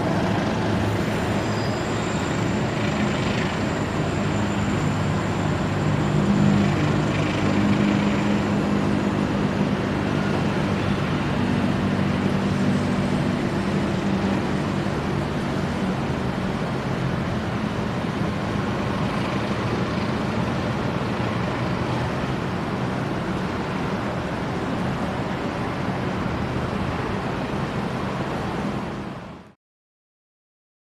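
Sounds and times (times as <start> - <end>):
freight train rumbling past: 0.0 - 29.3
low engine drone: 0.0 - 29.6.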